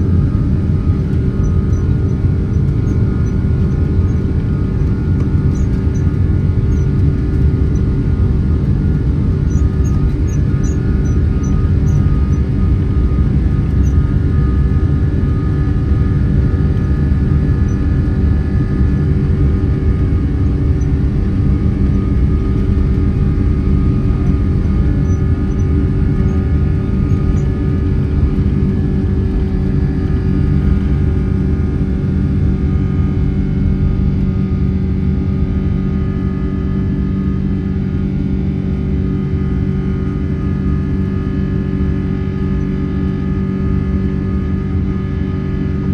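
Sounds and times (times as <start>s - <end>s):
airplane cabin rumble: 0.0s - 45.9s
jet engine hum: 0.0s - 45.9s.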